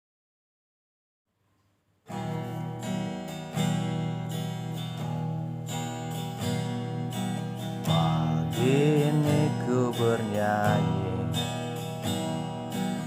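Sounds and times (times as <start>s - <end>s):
acoustic guitar strumming chords: 2.1s - 13.0s.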